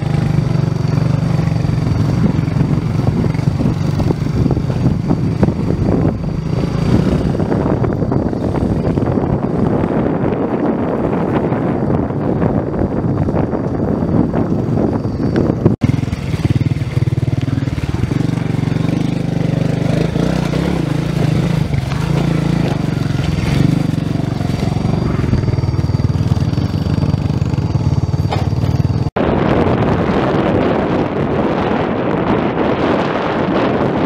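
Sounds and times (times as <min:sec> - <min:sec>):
motorcycle engine running: 0:00.0 - 0:34.0
wind rushing over microphone: 0:00.0 - 0:34.0.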